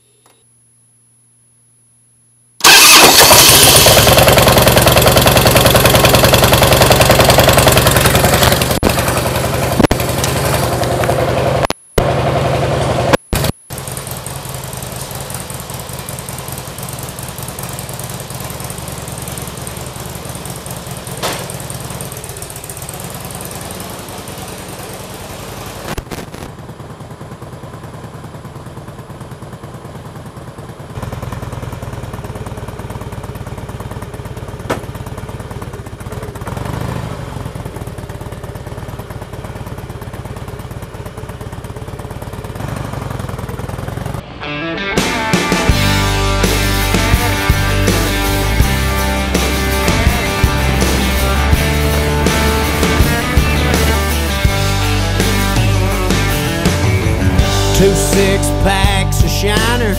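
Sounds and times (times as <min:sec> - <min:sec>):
motorcycle engine idling: 0:02.6 - 0:44.3, 0:45.6 - 0:59.9.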